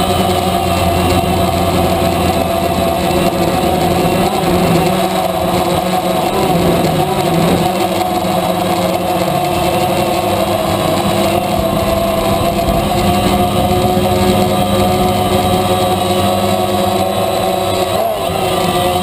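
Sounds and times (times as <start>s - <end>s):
drone motors and propellers humming: 0.0s - 19.0s.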